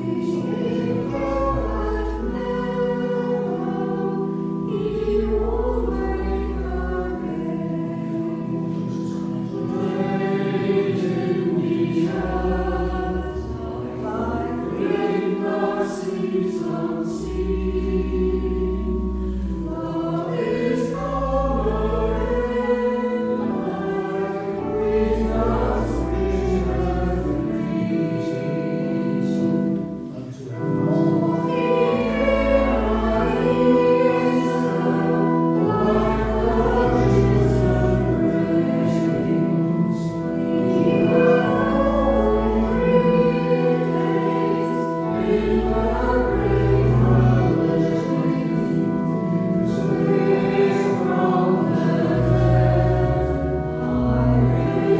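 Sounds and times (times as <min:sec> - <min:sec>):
organ chords: 0:00.0 - 0:54.9
voices singing a hymn: 0:00.0 - 0:54.9.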